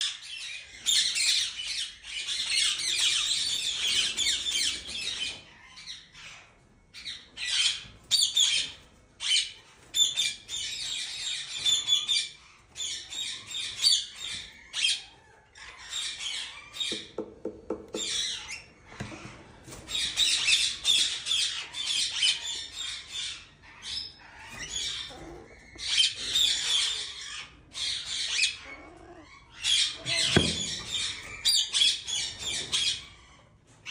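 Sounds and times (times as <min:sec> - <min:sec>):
birds squawking and chattering: 0:00.0 - 0:33.9.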